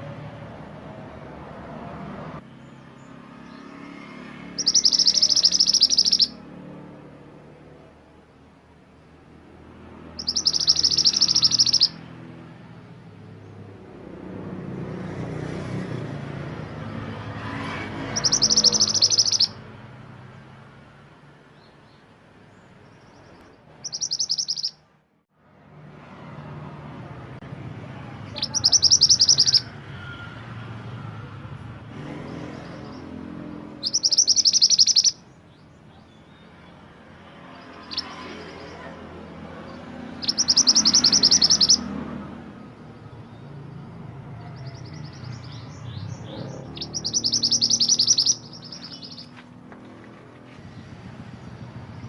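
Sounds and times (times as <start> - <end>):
songbird singing: 2.4 - 14.1, 16.1 - 25.0, 28.0 - 30.2, 32.0 - 52.0.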